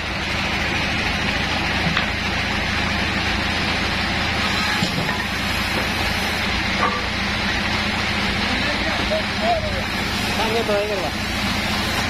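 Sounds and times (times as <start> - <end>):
bandsaw machinery running: 0.0 - 12.0.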